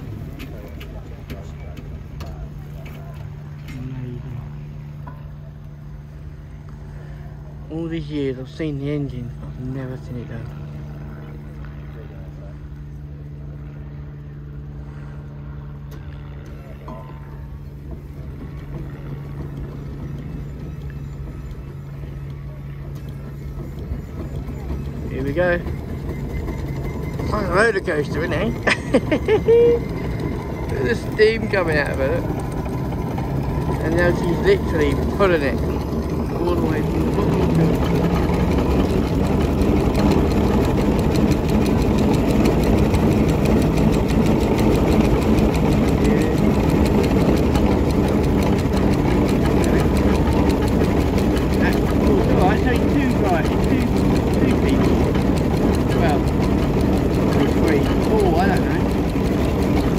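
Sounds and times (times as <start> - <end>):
steam engine running: 0.0 - 59.9.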